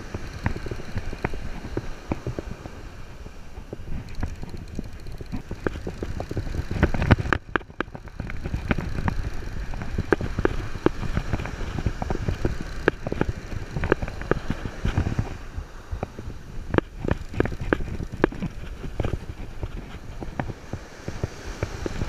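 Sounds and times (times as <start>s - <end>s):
fishing reel clicking: 0.0s - 15.4s, 16.0s - 22.0s
wind rumble on microphone: 0.0s - 22.0s.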